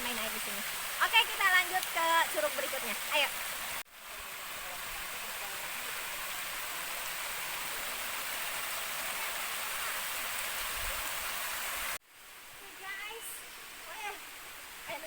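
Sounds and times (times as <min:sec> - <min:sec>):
rushing stream water: 0:00.0 - 0:15.0.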